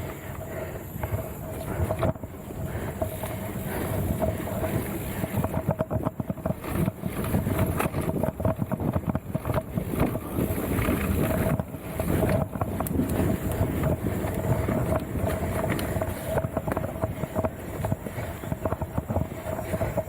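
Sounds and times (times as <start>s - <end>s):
bike rattling and knocking: 0.0s - 20.0s
wind buffeting microphone: 0.0s - 20.0s.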